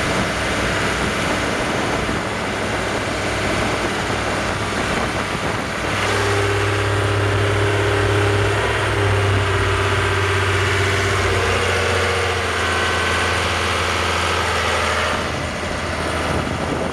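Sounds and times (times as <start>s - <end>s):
inboard boat diesel engine running: 0.0s - 16.9s.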